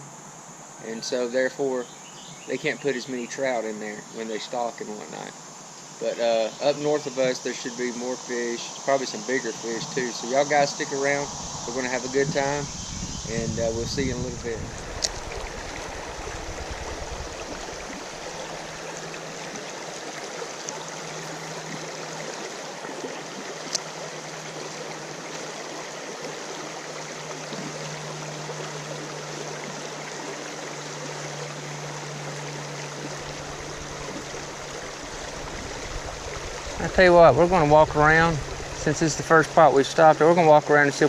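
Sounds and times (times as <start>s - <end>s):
creek water flowing: 0.8s - 41.0s
faint low hum: 6.0s - 41.0s.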